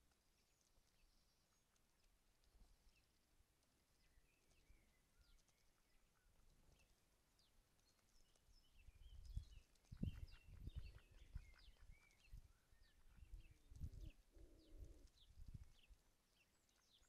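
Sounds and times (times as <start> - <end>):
ducks pecking soft taps: 0.0 - 17.0
faint songbird chirps: 0.0 - 17.0.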